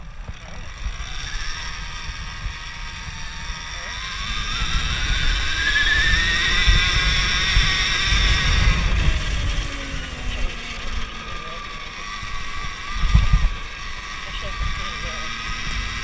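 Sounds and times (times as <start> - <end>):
electric motorbike motor whining: 0.0 - 16.0.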